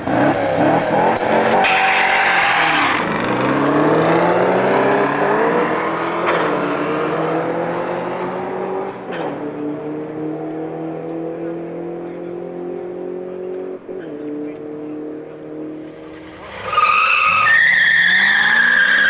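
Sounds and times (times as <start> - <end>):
car engine at full throttle: 0.0 - 17.1.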